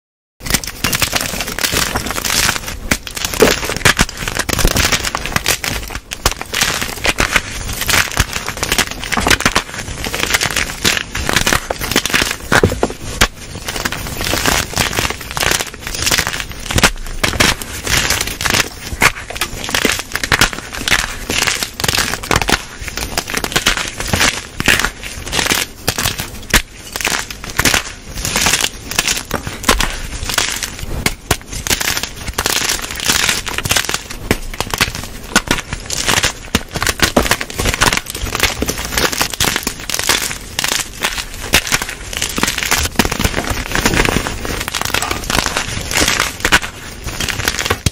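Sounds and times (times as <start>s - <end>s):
chalk crackling and crunching: 0.4s - 47.9s.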